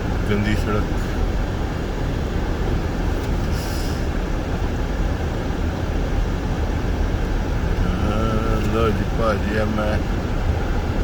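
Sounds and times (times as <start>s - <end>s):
car tyres on snowy road: 0.0s - 11.0s.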